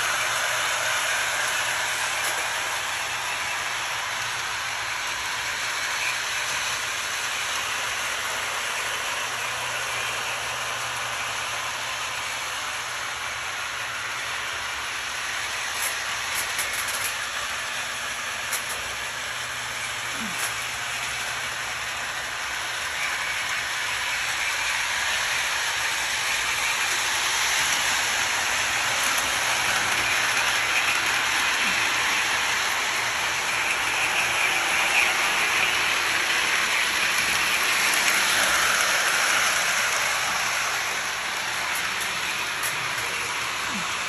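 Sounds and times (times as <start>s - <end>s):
toy train running on metal track: 0.0s - 44.0s.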